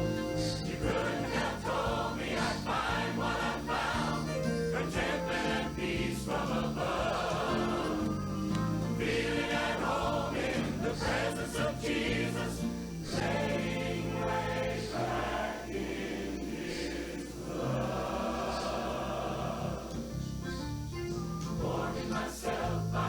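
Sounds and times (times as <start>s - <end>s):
choir singing a hymn: 0.0s - 20.7s, 21.4s - 23.0s
instrumental accompaniment: 0.0s - 23.0s.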